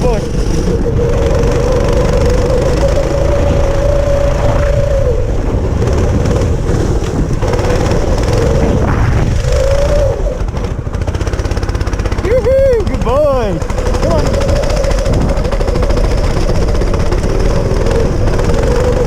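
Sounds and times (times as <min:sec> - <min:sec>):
go-kart engine revving: 0:00.0 - 0:19.0.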